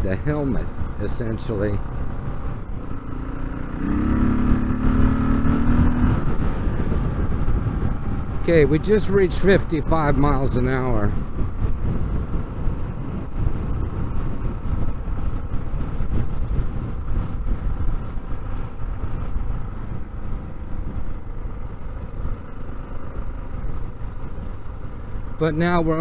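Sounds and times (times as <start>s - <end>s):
motorcycle engine rumble: 0.0s - 26.0s
wind rush: 0.0s - 26.0s.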